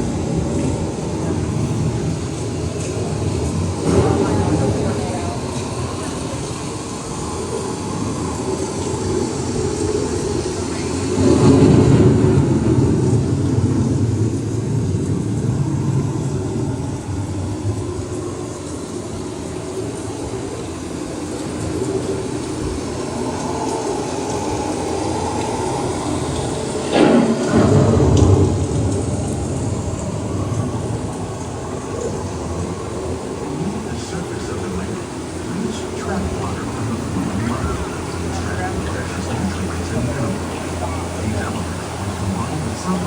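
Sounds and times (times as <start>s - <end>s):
low rumbling of boat ride: 0.0s - 43.0s.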